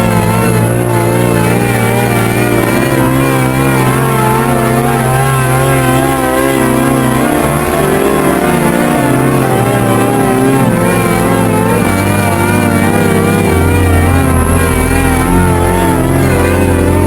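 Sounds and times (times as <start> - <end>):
steady low drone: 0.0 - 17.0
wavering distorted electronic tones: 0.0 - 17.0.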